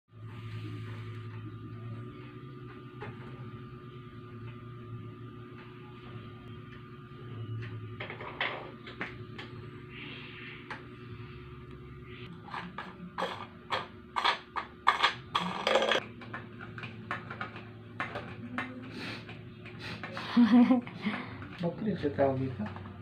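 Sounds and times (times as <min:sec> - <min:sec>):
faint steady hum: 0:00.1 - 0:21.6.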